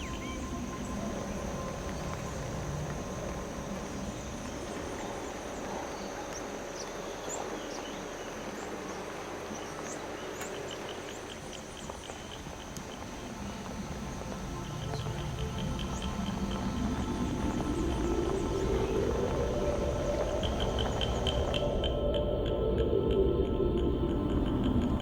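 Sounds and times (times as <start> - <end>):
high insect drone: 0.0 - 25.0.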